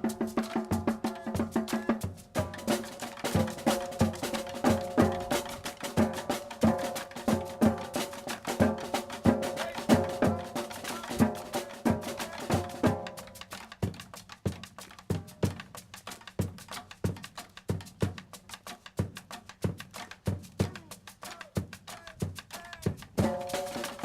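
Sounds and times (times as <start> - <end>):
marching drumline playing: 0.0 - 24.0.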